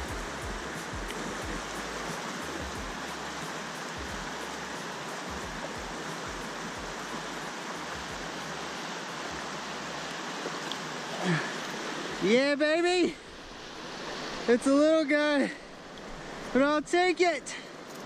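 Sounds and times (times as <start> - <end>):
river water rushing over rapids: 0.0 - 18.0.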